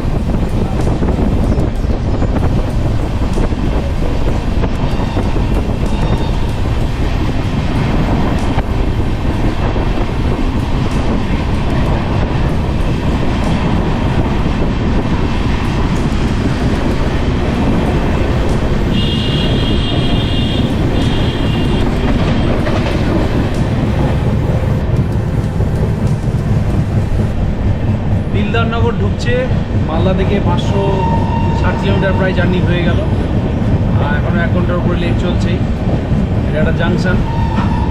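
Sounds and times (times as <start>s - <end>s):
train wheels clattering on rails: 0.0s - 37.9s.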